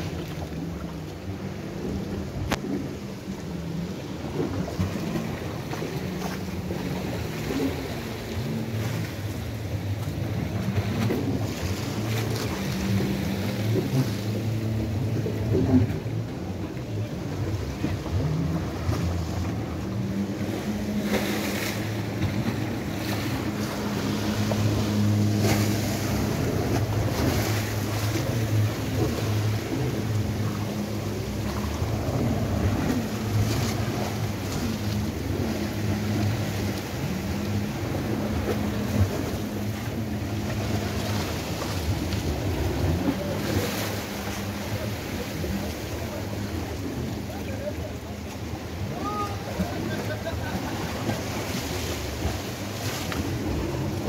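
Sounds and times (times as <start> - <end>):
low engine hum: 0.0 - 54.0
sea waves washing over rocks: 0.0 - 54.0.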